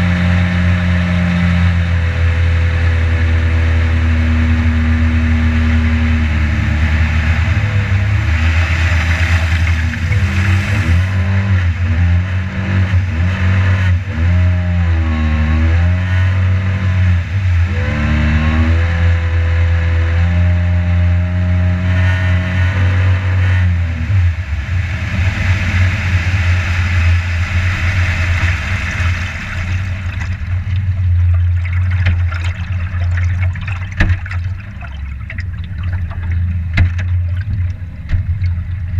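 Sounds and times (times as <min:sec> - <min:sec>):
boat motor running: 0:00.0 - 0:38.9
water rushing past hull: 0:00.0 - 0:38.9.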